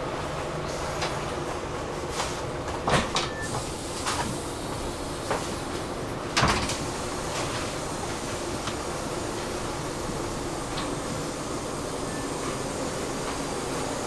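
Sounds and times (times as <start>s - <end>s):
train rumbling inside carriage: 0.0s - 14.0s.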